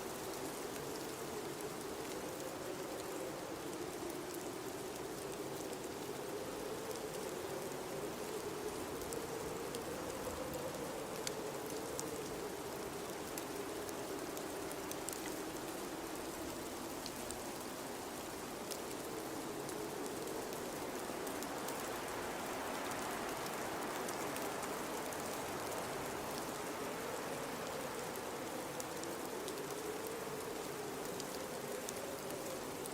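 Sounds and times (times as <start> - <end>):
blizzard wind howling: 0.0 - 32.9.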